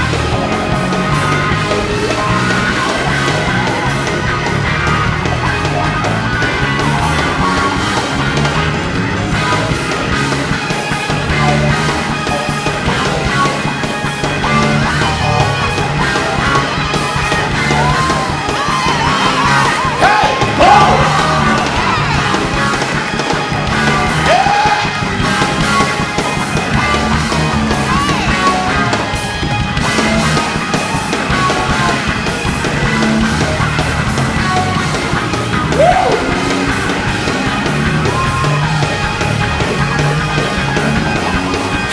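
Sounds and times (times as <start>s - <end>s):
loud rock band music: 0.0s - 41.9s
voices yelling: 0.0s - 41.9s.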